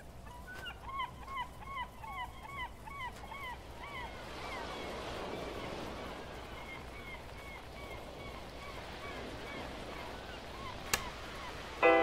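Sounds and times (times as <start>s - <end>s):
surf rumble: 0.0s - 12.0s.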